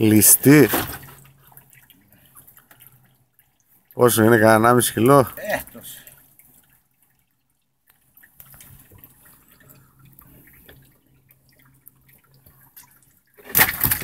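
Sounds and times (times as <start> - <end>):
faint water dripping: 0.0 - 13.9.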